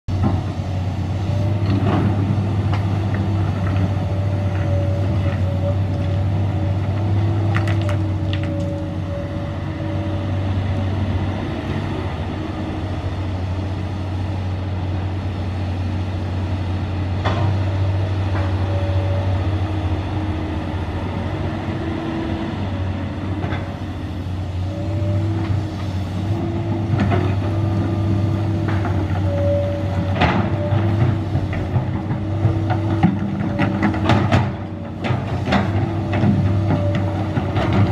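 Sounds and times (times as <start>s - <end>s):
excavator diesel engine running: 0.1s - 37.9s.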